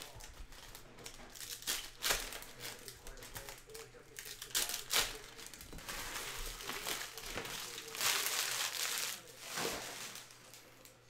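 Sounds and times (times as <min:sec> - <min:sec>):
foil wrappers crinkling: 0:00.0 - 0:11.0.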